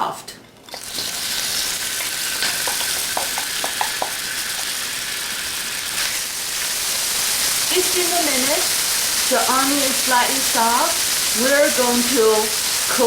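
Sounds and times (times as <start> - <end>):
onion sizzling in oil: 0.7 - 13.0.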